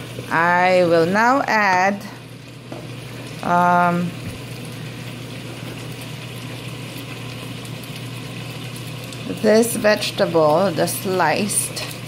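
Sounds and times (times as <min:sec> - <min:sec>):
broth bubbling in a pot: 0:00.0 - 0:12.0.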